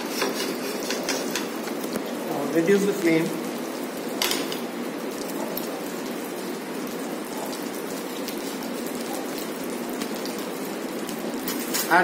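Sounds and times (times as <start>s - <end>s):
butter sizzling in frying pan: 0.0s - 12.0s.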